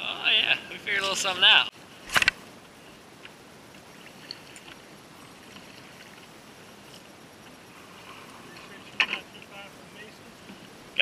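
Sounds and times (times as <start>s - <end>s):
water around kayak hull: 0.7s - 11.0s.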